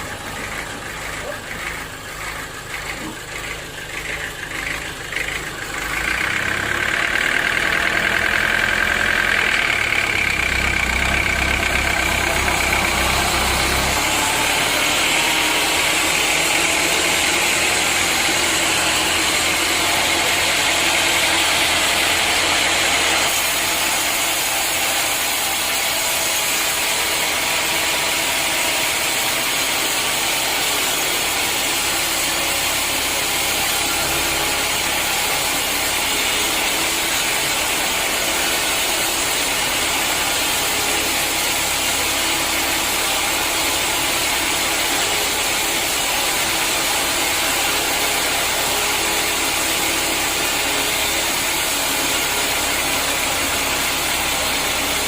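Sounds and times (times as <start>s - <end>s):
saw cutting through timber: 0.0s - 55.0s
sawmill saw engine running: 0.0s - 55.0s.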